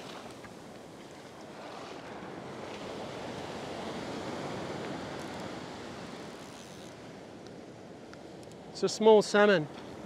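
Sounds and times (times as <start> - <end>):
ocean surf breaking on beach: 0.0 - 10.0.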